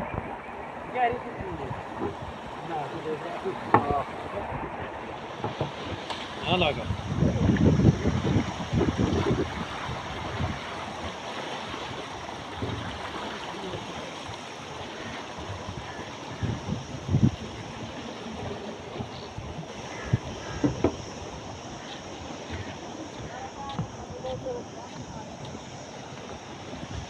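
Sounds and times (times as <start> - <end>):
water rushing: 0.0 - 27.0
wind rumbling on microphone: 0.0 - 27.0.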